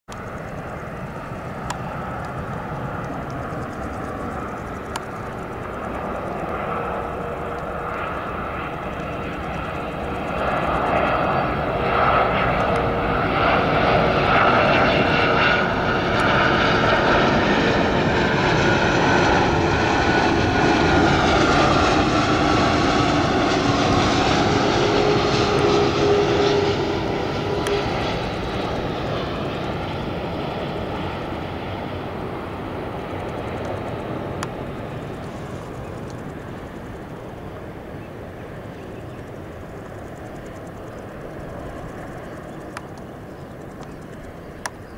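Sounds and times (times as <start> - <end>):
jet airliner passing overhead: 0.1 - 44.9.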